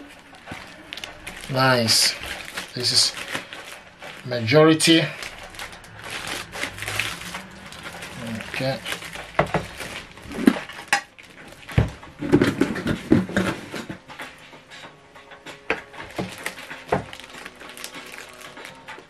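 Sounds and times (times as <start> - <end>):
plastic wrapping crinkling: 0.0 - 14.0, 15.8 - 19.0.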